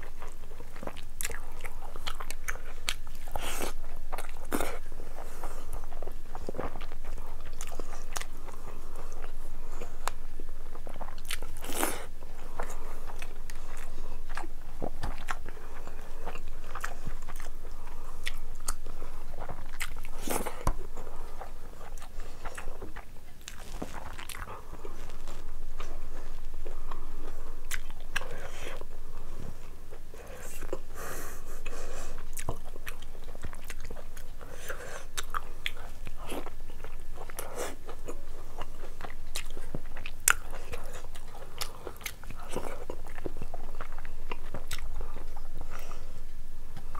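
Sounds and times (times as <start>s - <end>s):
chewing with wet mouth smacks: 0.0s - 30.9s, 31.6s - 46.0s.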